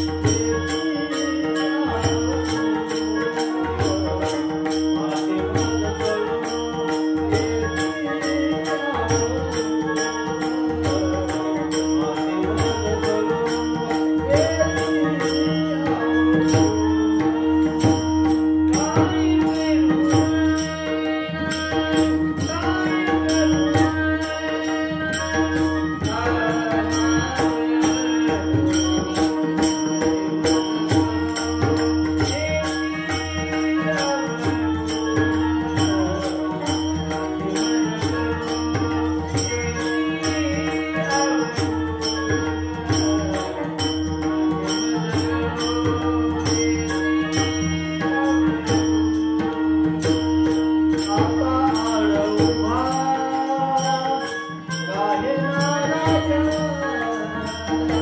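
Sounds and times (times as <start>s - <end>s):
jingling percussion: 0.0s - 58.0s
person singing wavering melody: 0.0s - 58.0s.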